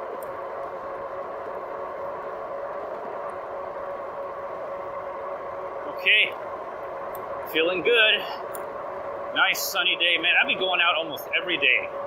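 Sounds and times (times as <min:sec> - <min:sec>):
electric bike motor whine: 0:00.0 - 0:12.0.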